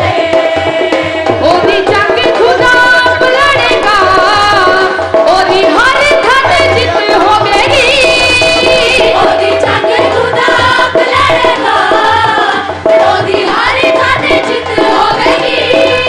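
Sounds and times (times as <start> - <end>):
hand drum beat: 0.0 - 16.0
women singing into microphones: 0.0 - 16.0.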